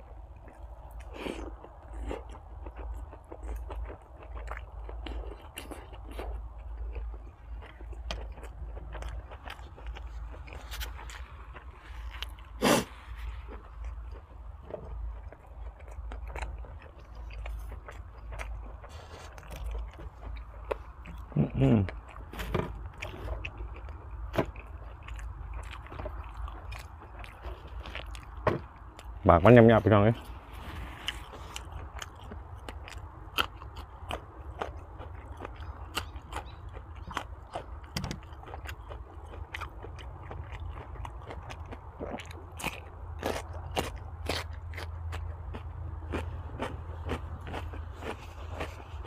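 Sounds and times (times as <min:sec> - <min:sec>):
person chewing crunchy food: 0:00.0 - 0:49.0
steady low hum: 0:00.0 - 0:49.0.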